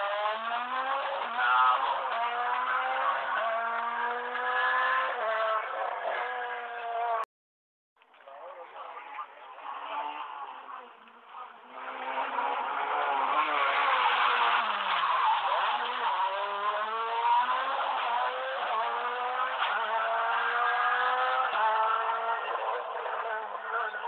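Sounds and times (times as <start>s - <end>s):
rally car engine passing: 0.0s - 7.2s, 9.0s - 24.0s.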